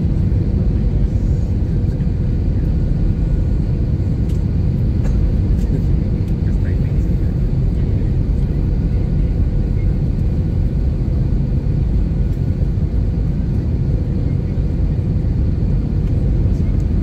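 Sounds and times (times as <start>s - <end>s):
jet cabin engine roar: 0.0s - 17.0s.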